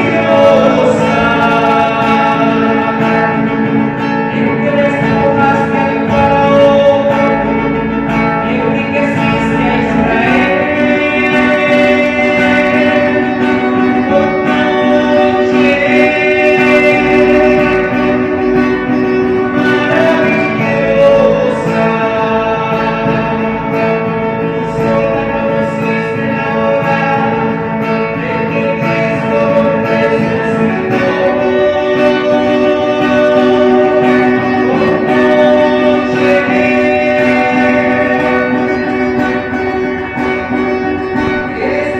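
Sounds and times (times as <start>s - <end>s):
guitar playing: 0.0s - 41.9s
sustained melody line: 0.0s - 41.9s.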